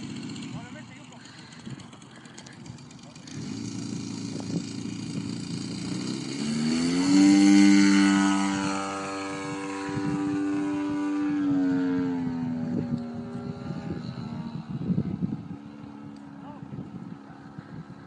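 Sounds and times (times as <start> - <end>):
model plane engine at full throttle: 0.0 - 18.0.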